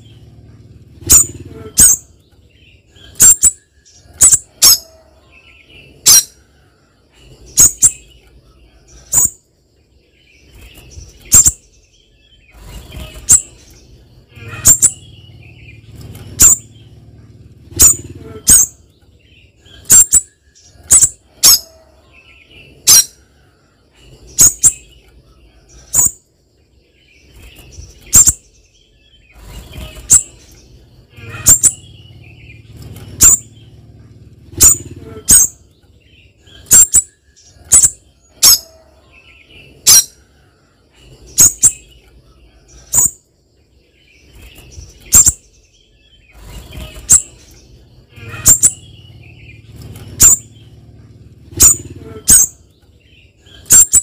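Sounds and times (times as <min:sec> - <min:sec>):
bird chip calls: 0:00.9 - 0:09.5, 0:10.4 - 0:17.0, 0:17.6 - 0:26.3, 0:27.2 - 0:43.3, 0:44.2 - 0:54.0.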